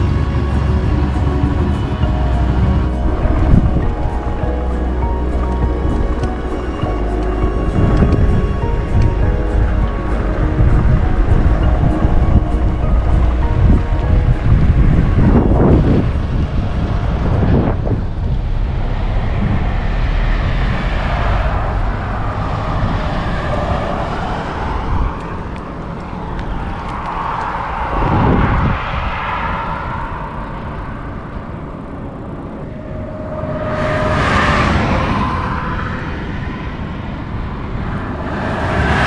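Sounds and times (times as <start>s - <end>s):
vehicles passing on highway: 0.0s - 39.0s
wind on microphone: 0.0s - 39.0s.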